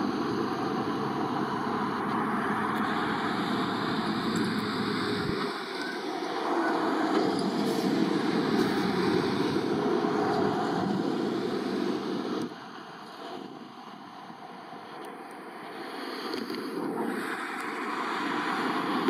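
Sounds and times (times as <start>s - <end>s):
trains running on rails: 0.0s - 19.0s.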